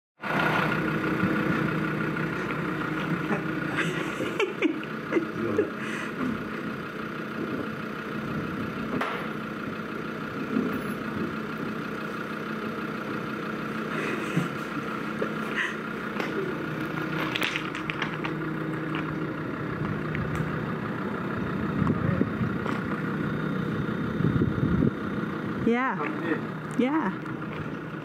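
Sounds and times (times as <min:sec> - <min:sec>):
van engine idling: 0:00.2 - 0:28.0.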